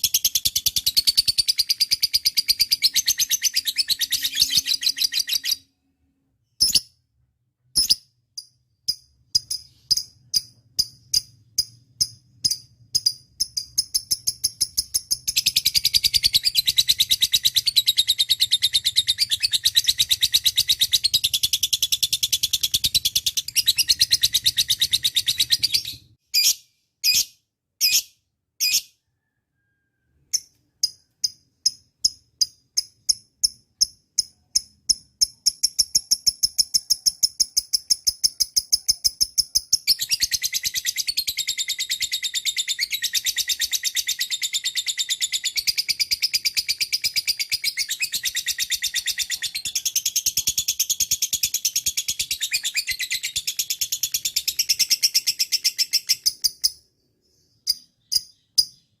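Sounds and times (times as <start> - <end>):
lovebird chirping and trilling: 0.0 - 5.8, 6.4 - 7.0, 7.7 - 59.0.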